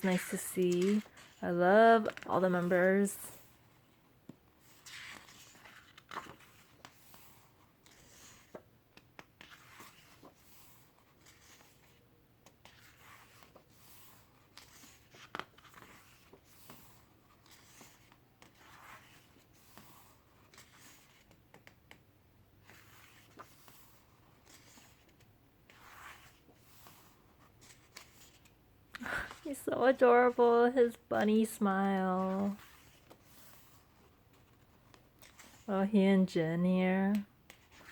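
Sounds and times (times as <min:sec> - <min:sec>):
paper pages being turned: 0:00.0 - 0:22.0, 0:22.6 - 0:35.7, 0:37.0 - 0:37.9.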